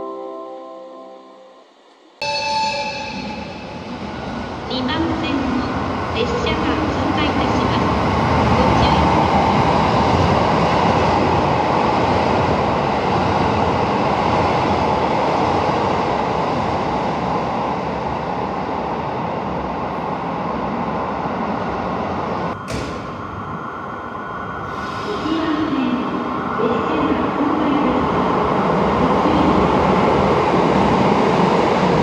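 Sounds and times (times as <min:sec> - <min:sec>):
station background noise: 0:01.4 - 0:32.0.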